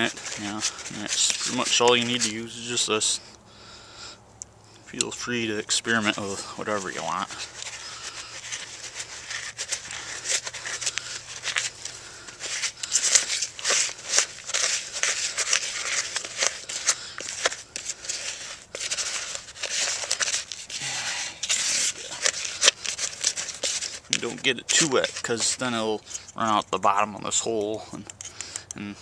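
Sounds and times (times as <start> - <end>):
stick scraping cement in plastic tub: 0.0 - 2.9, 5.8 - 19.6, 21.4 - 28.7.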